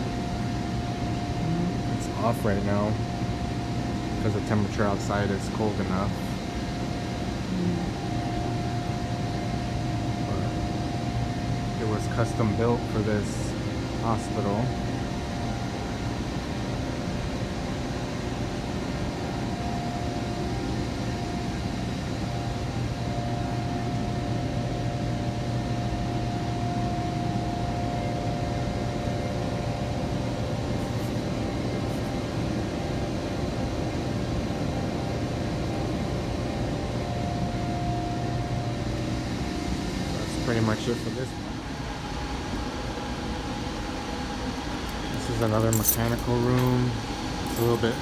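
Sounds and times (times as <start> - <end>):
hvac machinery drone: 0.0 - 48.0.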